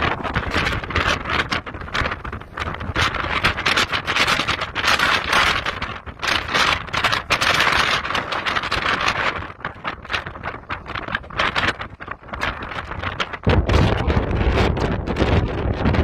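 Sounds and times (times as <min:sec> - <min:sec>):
storm wind gusting: 0:00.0 - 0:16.0
wind buffeting microphone: 0:00.0 - 0:16.0.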